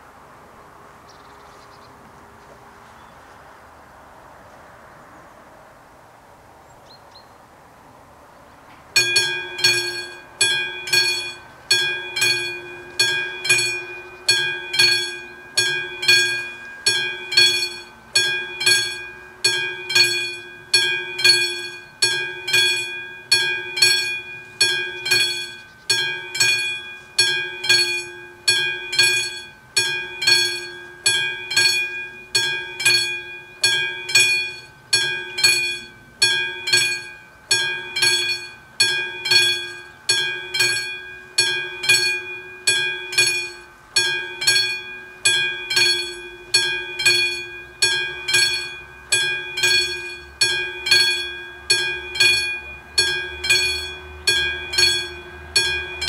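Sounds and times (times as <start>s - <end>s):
level crossing bells ringing: 8.9s - 56.0s.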